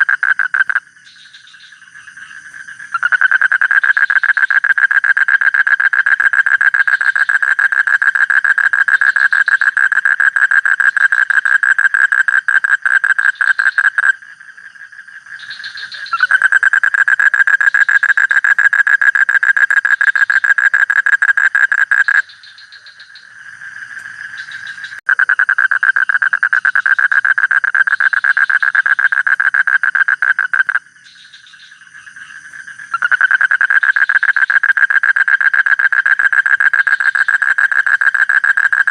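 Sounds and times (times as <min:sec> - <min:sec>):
frog pulsing trills: 0:00.0 - 0:38.9.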